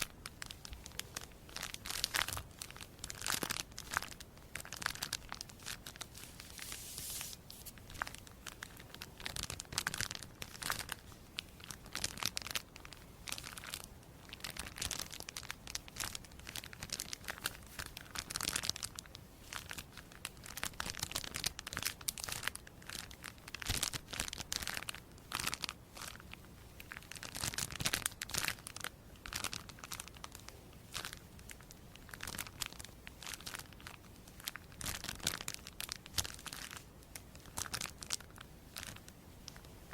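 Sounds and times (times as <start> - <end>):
crisp crinkling and tearing: 0.0 - 39.9.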